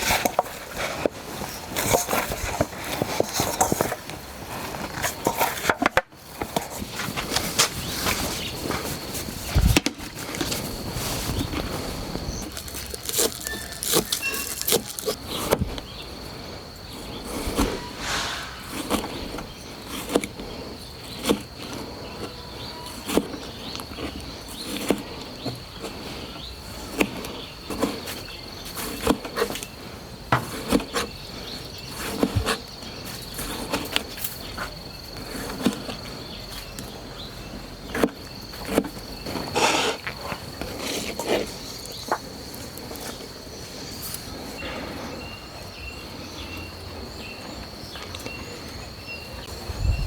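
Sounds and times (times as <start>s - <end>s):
crickets trilling: 0.0s - 50.0s.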